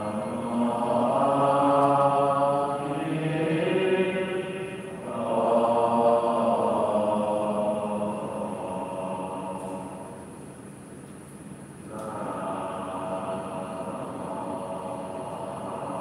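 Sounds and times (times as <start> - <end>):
chanting in long held notes: 0.0 - 10.4, 11.9 - 16.0.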